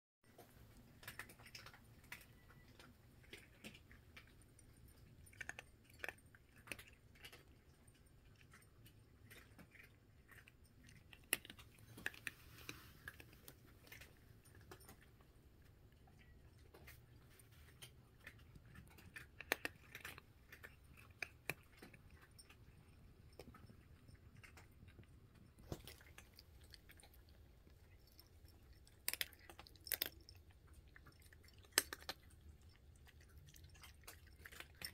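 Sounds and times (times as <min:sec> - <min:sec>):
cats crunching dry kibble: 0:00.4 - 0:34.9.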